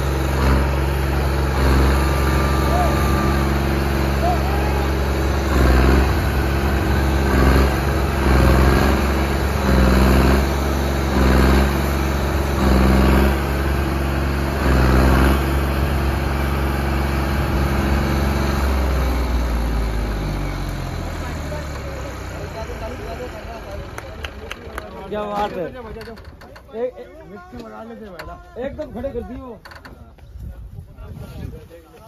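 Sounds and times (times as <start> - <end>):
tractor diesel engine revving: 0.0 - 26.1.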